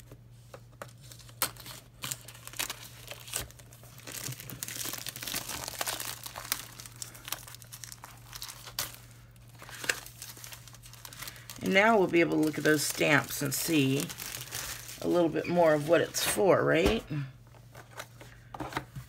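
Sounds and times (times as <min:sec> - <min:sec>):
plastic bag crinkling: 0:00.9 - 0:16.4.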